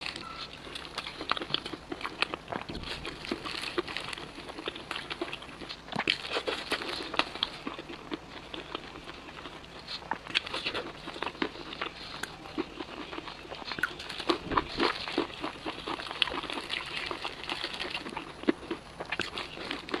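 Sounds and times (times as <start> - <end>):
crispy chicken crunching: 0.0 - 20.0.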